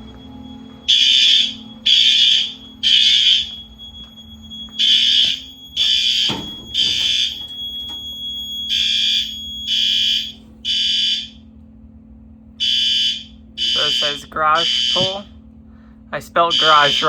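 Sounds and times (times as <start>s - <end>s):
fire alarm horn blasts: 0.0s - 11.4s, 12.6s - 15.4s, 16.1s - 17.0s.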